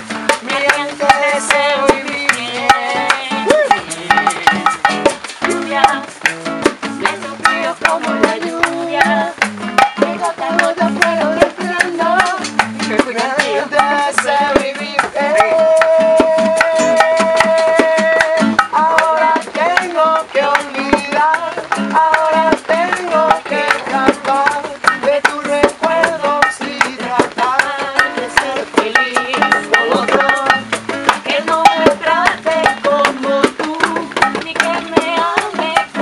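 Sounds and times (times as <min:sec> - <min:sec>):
man singing: 0:00.0 - 0:36.0
strummed acoustic guitar: 0:00.0 - 0:36.0.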